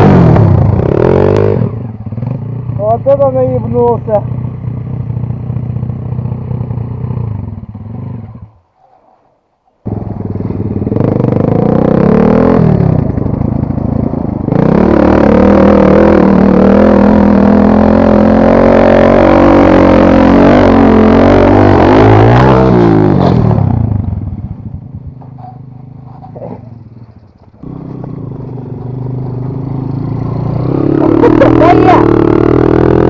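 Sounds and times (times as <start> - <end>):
dirt bike engine revving: 0.0 - 8.5, 9.9 - 24.3, 27.6 - 33.0.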